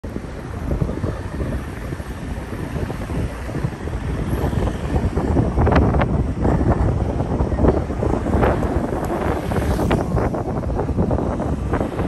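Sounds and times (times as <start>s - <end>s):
car road noise rumble: 0.0s - 12.0s
wind buffeting on microphone: 0.0s - 12.0s.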